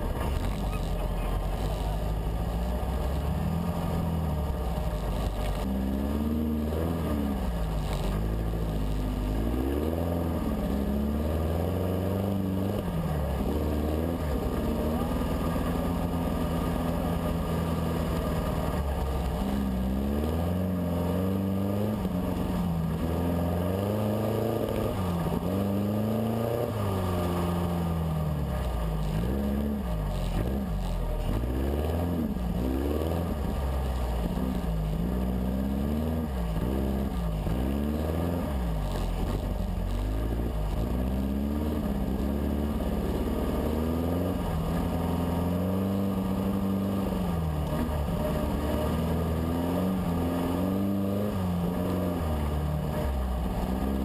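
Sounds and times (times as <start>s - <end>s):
dune buggy engine revving: 0.0s - 54.0s.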